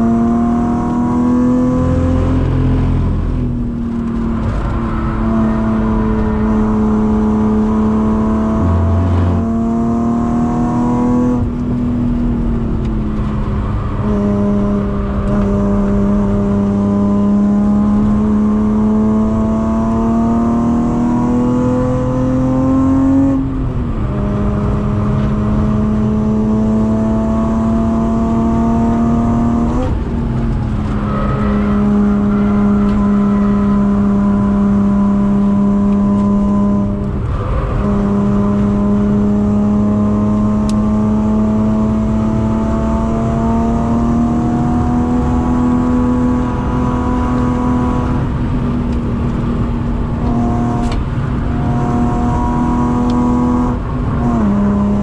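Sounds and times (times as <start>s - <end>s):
car engine pulling at high revs: 0.0s - 55.0s.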